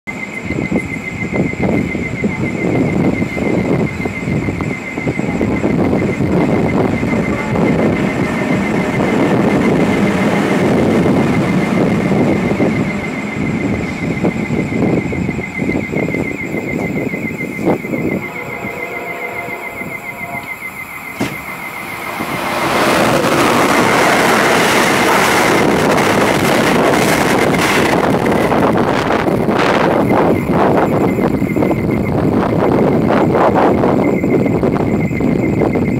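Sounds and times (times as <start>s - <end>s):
electric train rumble and whine: 0.1s - 35.9s
train rushing past: 1.1s - 31.6s.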